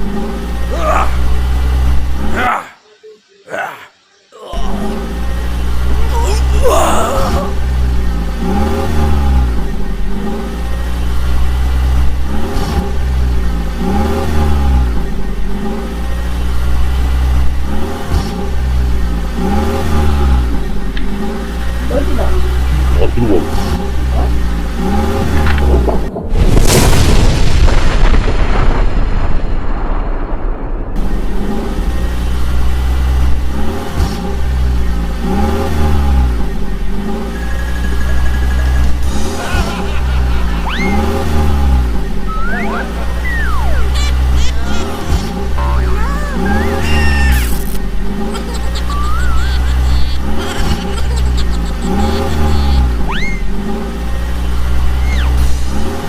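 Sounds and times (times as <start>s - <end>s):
vehicle engine revving: 0.0s - 2.6s, 4.5s - 27.2s, 31.0s - 56.0s.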